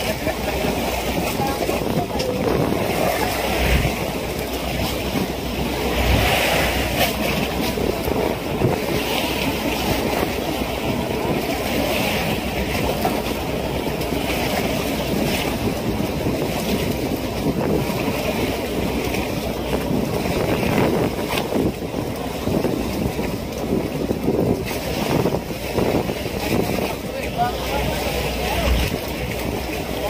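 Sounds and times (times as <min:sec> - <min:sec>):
boat engine low rumble: 0:00.0 - 0:30.0
waves splashing against hull: 0:00.0 - 0:30.0
wind buffeting microphone: 0:00.0 - 0:30.0.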